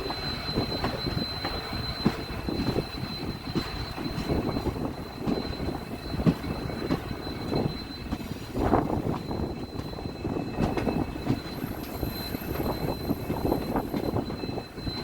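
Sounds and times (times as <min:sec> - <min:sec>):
high-pitched whine: 0:00.0 - 0:15.0
knocks of train wheels: 0:00.0 - 0:15.0
train wheels rumbling on track: 0:00.0 - 0:15.0.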